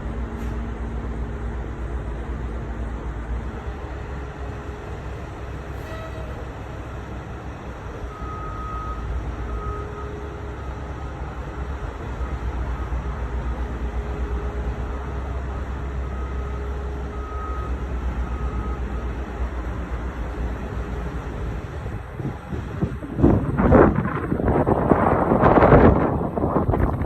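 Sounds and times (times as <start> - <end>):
diesel truck engine rumbling: 0.0 - 27.0.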